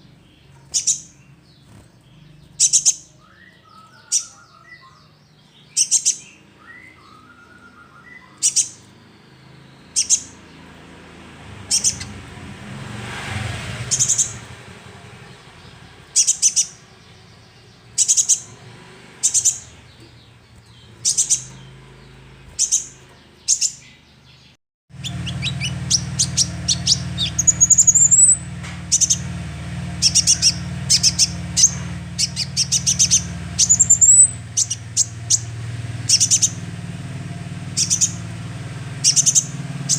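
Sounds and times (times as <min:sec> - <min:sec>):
twittering chirps and trills: 0:00.0 - 0:24.2, 0:24.9 - 0:39.9
bird chirping: 0:00.0 - 0:39.9.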